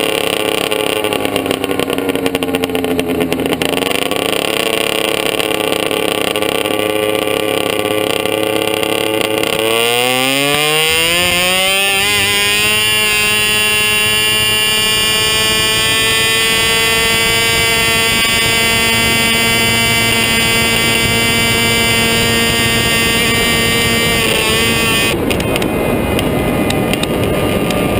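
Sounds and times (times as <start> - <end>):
golf cart engine revving: 0.0 - 27.9.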